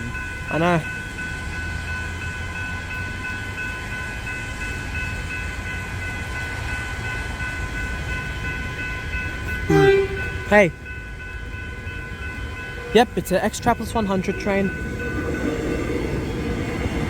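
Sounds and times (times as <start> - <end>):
level crossing bells ringing: 0.0 - 17.0.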